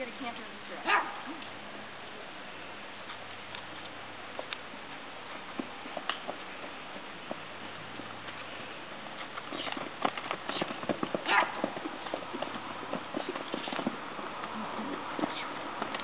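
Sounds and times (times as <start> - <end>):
horse hooves on dirt: 0.0 - 16.0.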